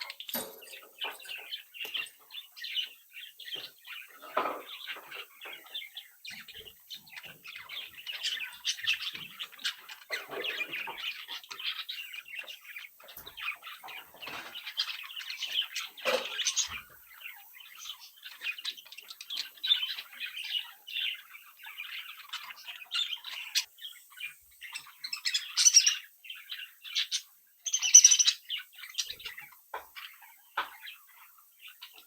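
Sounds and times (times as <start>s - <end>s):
budgerigars chattering: 0.0s - 32.0s.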